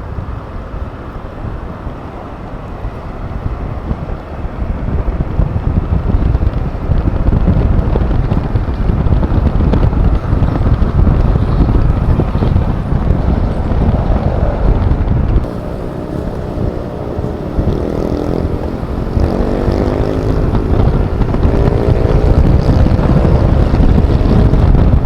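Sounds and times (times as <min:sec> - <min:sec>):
road noise: 0:00.0 - 0:25.0
wind buffeting microphone: 0:00.0 - 0:25.0
scooter engine running: 0:02.7 - 0:25.0.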